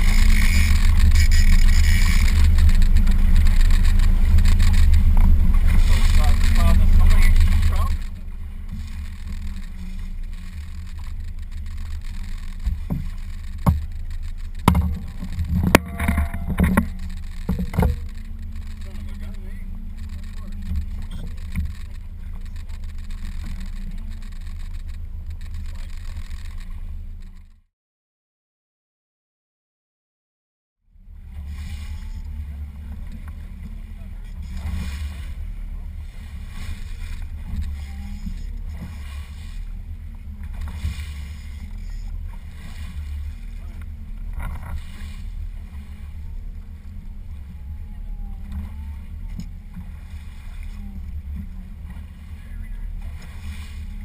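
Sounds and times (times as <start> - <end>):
boat motor rumbling: 0.0 - 27.7, 30.8 - 54.0
water against hull: 0.0 - 27.7, 30.9 - 54.0.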